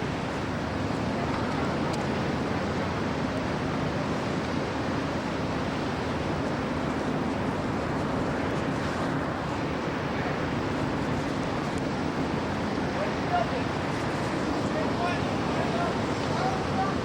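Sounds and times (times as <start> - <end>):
heavy ocean surf: 0.0 - 17.0
wind buffeting microphone: 0.0 - 17.0.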